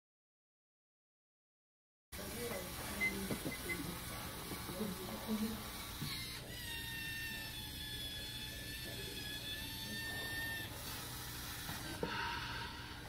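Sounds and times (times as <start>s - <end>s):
electric motors whining: 2.2s - 13.0s.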